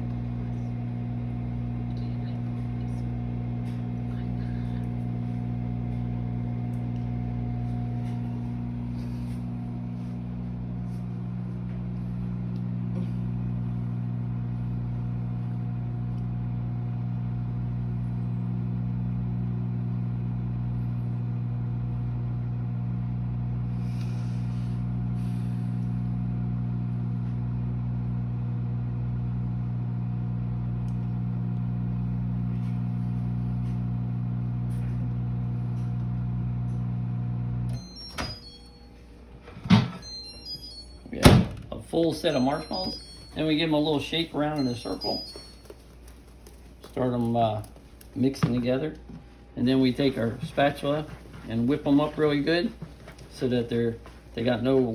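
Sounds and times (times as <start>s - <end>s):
microwave oven humming: 0.0s - 54.9s.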